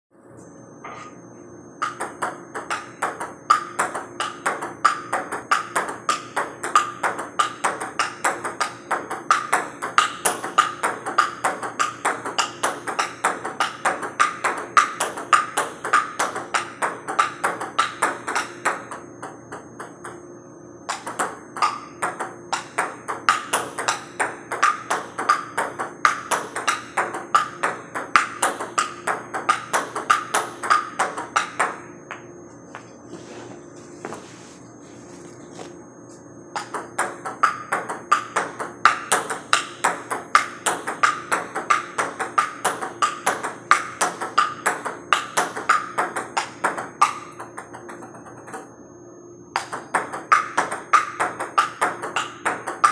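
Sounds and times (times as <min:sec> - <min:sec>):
table tennis ball bouncing: 0:01.8 - 0:20.2, 0:20.9 - 0:32.8, 0:36.5 - 0:48.7, 0:49.5 - 0:52.9.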